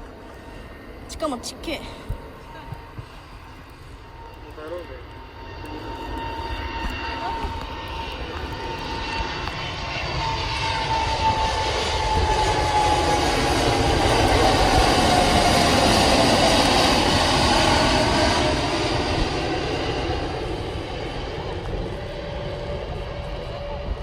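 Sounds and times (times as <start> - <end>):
jet passing by: 0.0 - 24.0.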